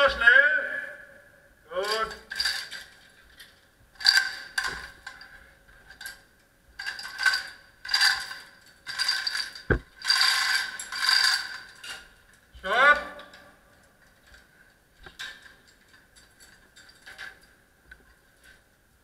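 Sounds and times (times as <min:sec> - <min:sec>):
metal chains rattling: 0:01.8 - 0:12.5, 0:13.2 - 0:17.7.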